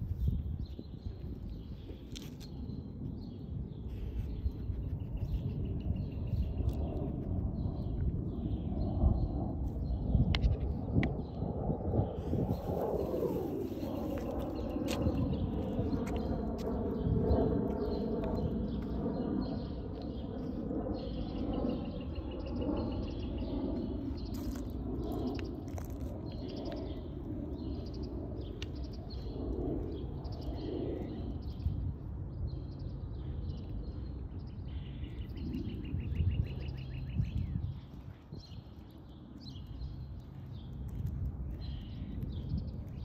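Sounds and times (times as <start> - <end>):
songbirds chirping: 0.2 - 43.0.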